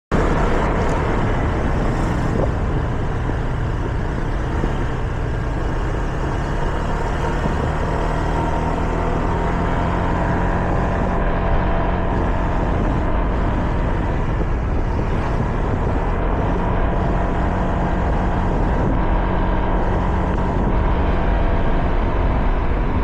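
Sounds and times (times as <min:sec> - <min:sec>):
motorcycle engine running: 0:00.1 - 0:23.0
wind and road noise: 0:00.1 - 0:23.0.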